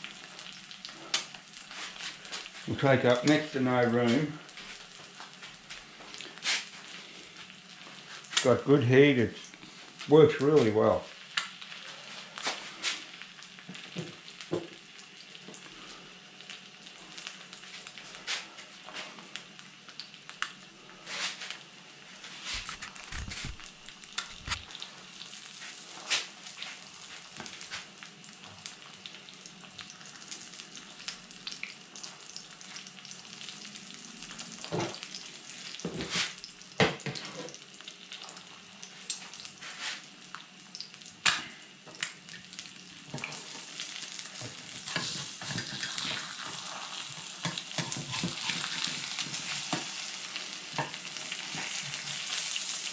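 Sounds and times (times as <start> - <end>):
eggs sizzling in a pan: 0.0 - 52.9.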